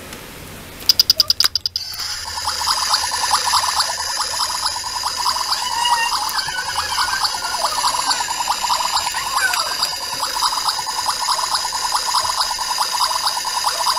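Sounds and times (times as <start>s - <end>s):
toy bubbling water sound: 0.9s - 13.9s.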